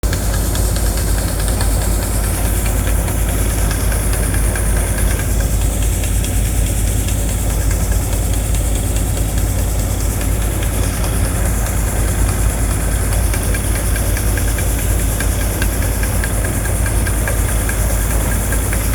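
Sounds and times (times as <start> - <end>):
harvesting machine engine running: 0.0 - 18.9.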